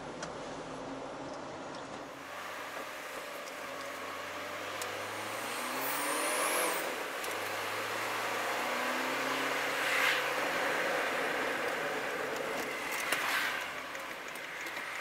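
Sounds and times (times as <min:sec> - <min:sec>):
tyre and road noise: 0:00.0 - 0:15.0
car engine accelerating: 0:02.2 - 0:15.0.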